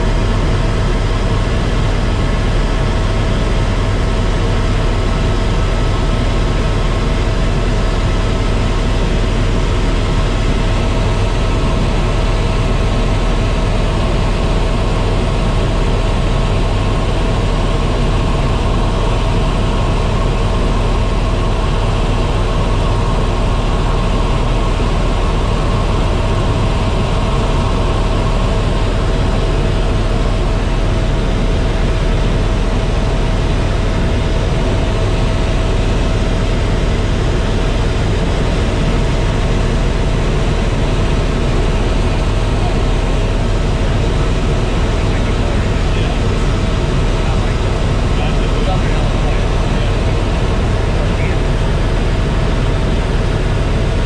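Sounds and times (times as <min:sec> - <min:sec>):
faint steady whine: 0:00.0 - 0:54.0
helicopter rotor and turbine drone: 0:00.0 - 0:54.0.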